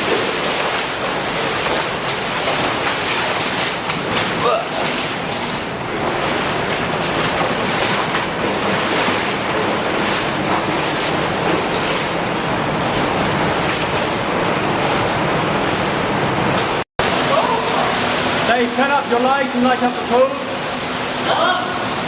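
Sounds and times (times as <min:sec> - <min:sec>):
cave stream rushing: 0:00.0 - 0:22.0.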